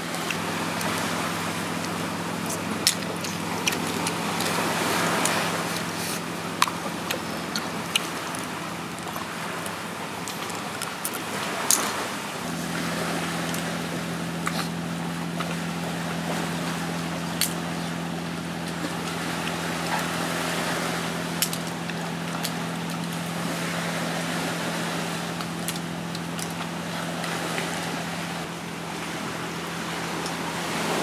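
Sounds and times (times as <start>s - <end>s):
sea: 0.0s - 31.0s
steady low hum: 0.0s - 31.0s
wind: 0.0s - 31.0s.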